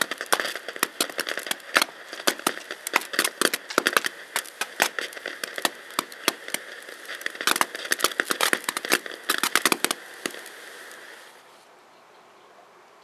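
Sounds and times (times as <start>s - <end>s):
firework hissing: 0.0s - 11.6s
firework sparks crackling: 0.0s - 11.6s.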